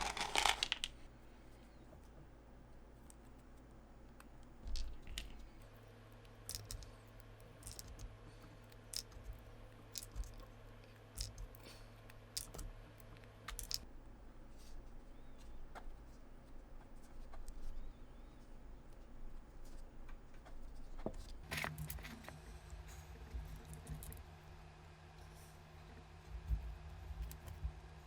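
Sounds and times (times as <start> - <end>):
small clicks taps and crinkles: 0.0 - 24.4
faint low hum: 0.0 - 28.0.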